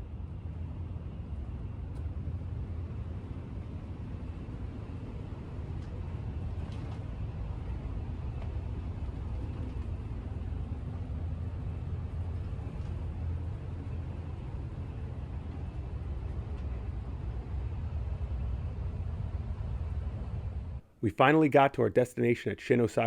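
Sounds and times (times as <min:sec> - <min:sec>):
train rumble from inside: 0:00.0 - 0:20.9.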